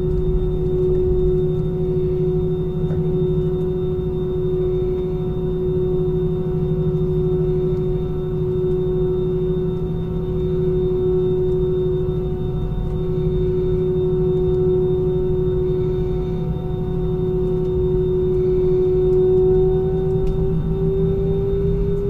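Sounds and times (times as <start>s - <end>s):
jet engines humming from cabin: 0.0s - 22.0s.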